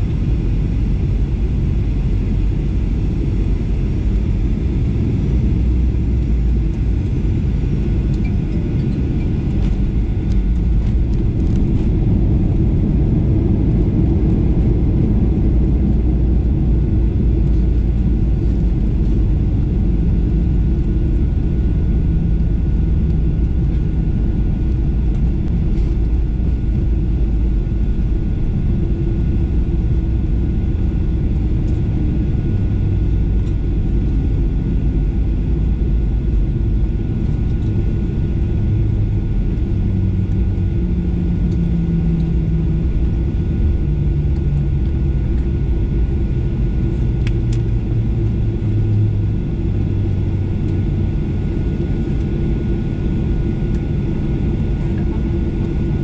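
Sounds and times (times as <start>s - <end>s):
jet engines idling rumble: 0.0s - 56.0s.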